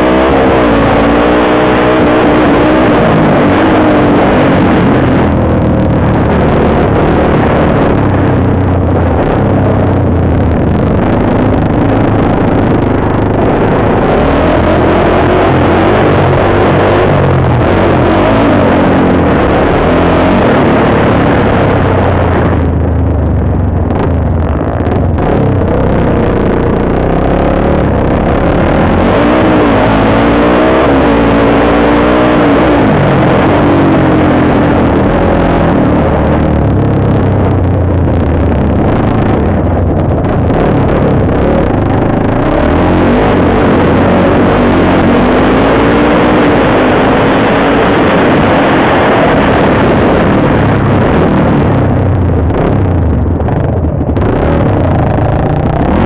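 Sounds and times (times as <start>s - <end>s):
loud rush of wind noise: 0.0s - 56.0s
quad engine revving: 0.0s - 56.0s.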